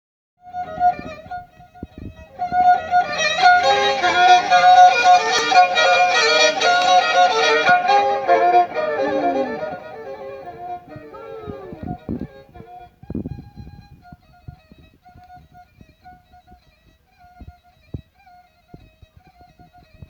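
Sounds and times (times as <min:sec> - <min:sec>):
instrumental music: 0:00.4 - 0:20.0.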